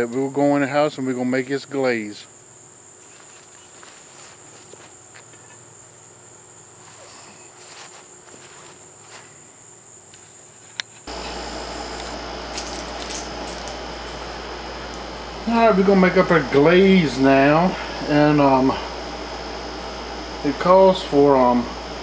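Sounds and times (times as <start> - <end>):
crickets trilling: 0.0 - 22.0
low electrical hum: 0.0 - 22.0.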